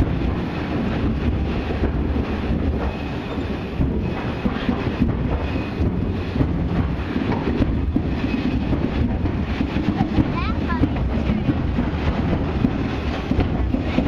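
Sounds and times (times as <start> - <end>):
turntable wheels rumbling on rail: 0.0 - 14.0.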